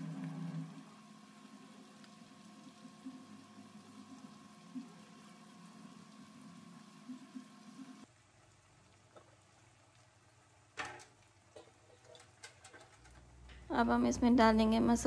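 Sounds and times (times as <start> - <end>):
potatoes and onions frying in oil: 0.0 - 15.0.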